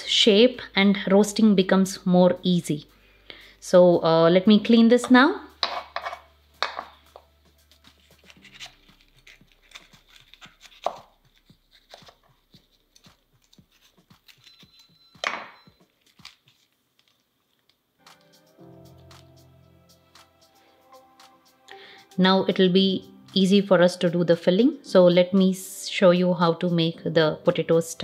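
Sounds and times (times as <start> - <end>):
background music: 0.0 - 16.4, 18.0 - 28.0.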